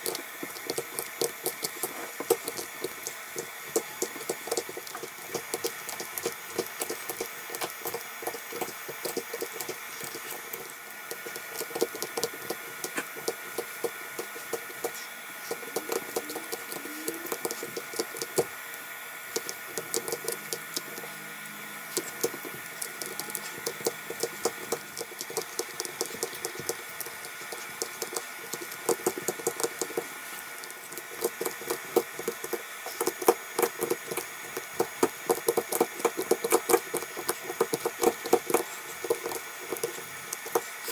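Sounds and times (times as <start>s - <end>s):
steady hum: 0.0s - 40.9s.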